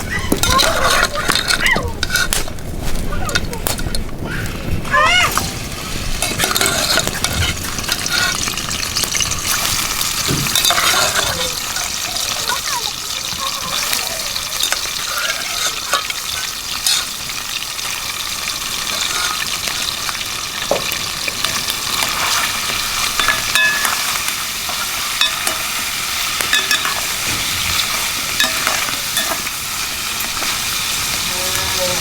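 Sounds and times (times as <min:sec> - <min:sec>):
spoon stirring in a pot: 0:00.0 - 0:04.1, 0:06.2 - 0:18.0, 0:18.6 - 0:32.0
food sizzling in hot oil: 0:00.0 - 0:32.0.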